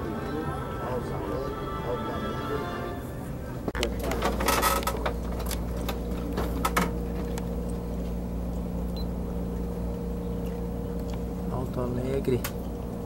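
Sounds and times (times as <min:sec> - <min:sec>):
train car mechanical hum: 0:00.0 - 0:13.0.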